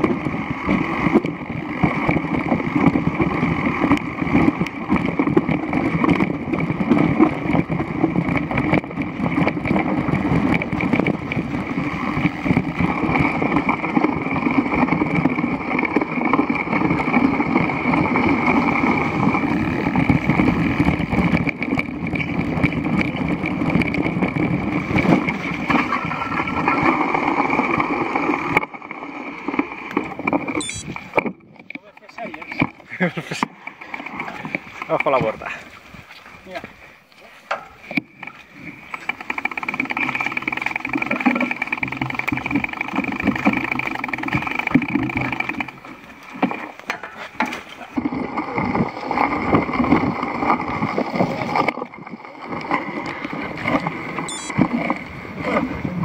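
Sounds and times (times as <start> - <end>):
bike tyres rattling on stones: 0.0 - 36.6, 37.2 - 56.0.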